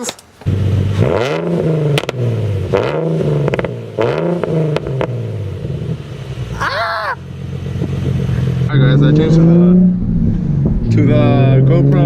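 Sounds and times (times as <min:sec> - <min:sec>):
exhaust cracks: 0:00.0 - 0:12.0
car engine revving and idling: 0:00.4 - 0:12.0.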